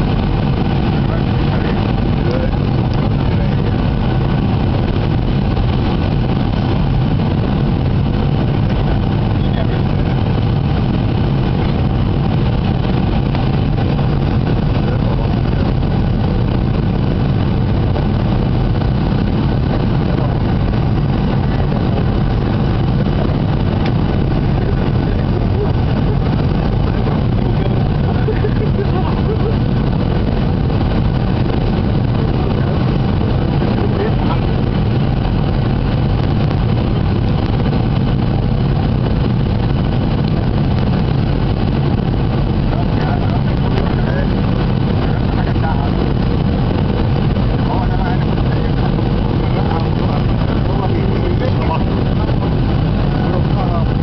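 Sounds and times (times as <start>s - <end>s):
jet airliner cabin noise: 0.0s - 54.0s.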